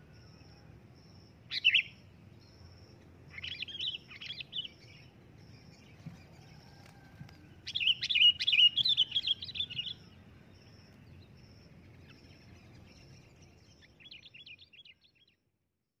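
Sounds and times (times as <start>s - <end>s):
bird chirping: 0.0s - 15.5s.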